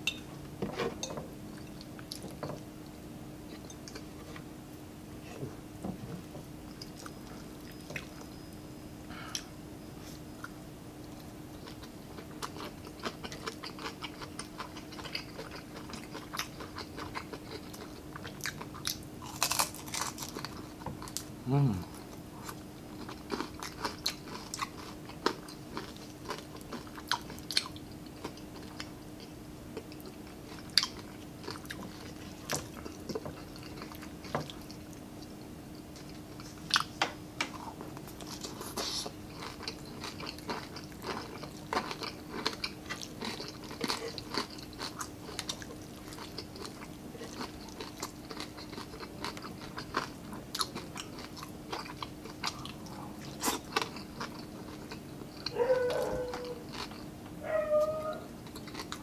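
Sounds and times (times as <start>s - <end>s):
steady low hum: 0.0s - 59.0s
person chewing and crunching food: 6.6s - 8.5s, 9.1s - 59.0s.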